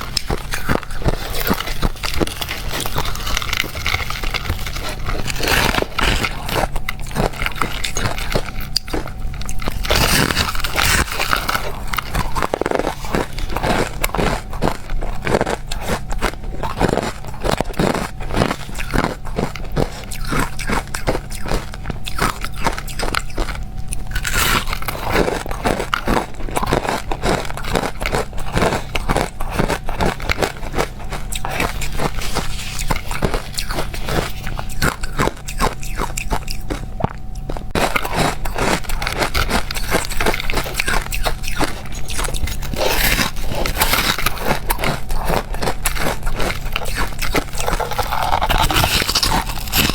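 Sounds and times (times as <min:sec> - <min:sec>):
crushed ice being chewed: 0:00.0 - 0:49.9.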